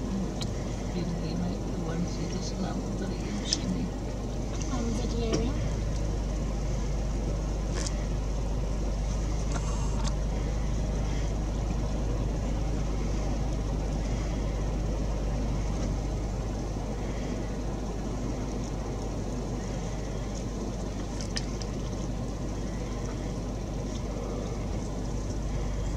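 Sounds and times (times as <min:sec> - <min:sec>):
vehicle engine idling: 0:00.0 - 0:25.9.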